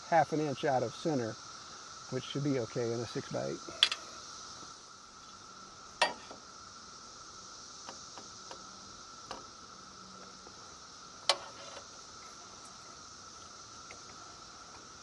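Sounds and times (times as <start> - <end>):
high insect buzz: 0.0 - 15.0.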